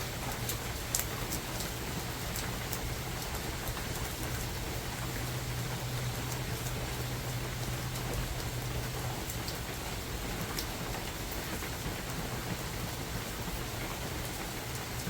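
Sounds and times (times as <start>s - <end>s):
rain patter: 0.0s - 15.0s.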